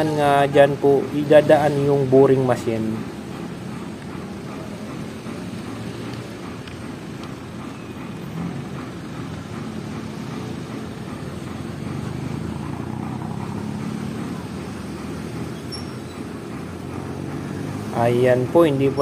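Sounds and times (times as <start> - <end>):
street traffic engines humming: 0.0 - 19.0.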